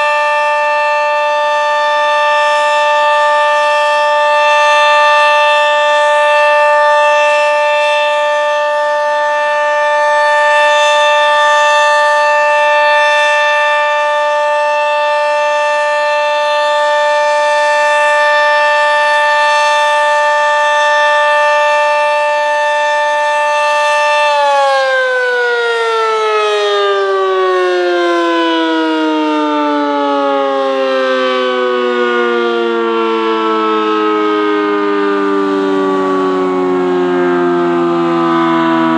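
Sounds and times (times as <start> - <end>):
dual-tone warning siren: 0.0 - 38.9.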